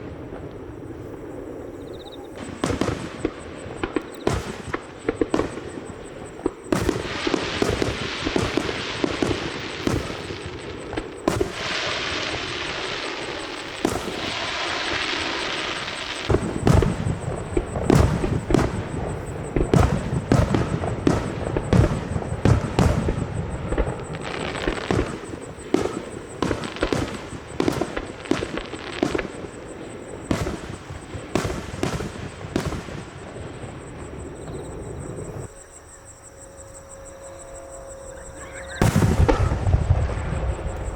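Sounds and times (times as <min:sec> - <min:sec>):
fireworks bangs and booms: 0:00.0 - 0:40.9
fireworks crackling hiss: 0:00.0 - 0:40.9.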